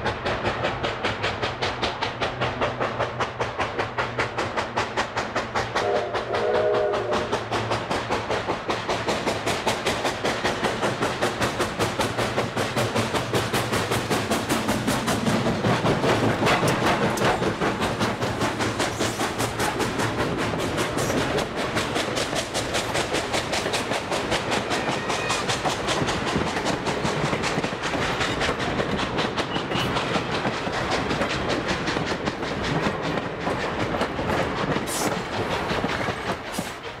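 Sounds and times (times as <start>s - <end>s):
train wheels clattering over rails: 0.0s - 37.0s.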